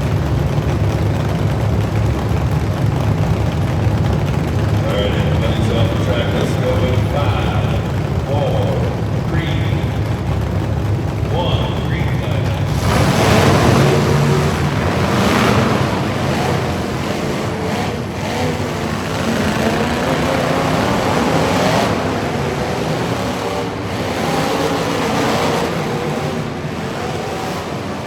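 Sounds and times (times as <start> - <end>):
heavy rushing noise: 0.0 - 28.0
truck engine under throttle: 0.0 - 28.0.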